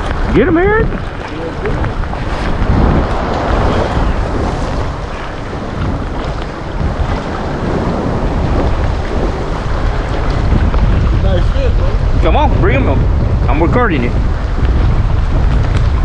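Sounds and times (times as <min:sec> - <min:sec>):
choppy water washing: 0:00.0 - 0:16.0
wind blowing across microphone: 0:00.0 - 0:16.0.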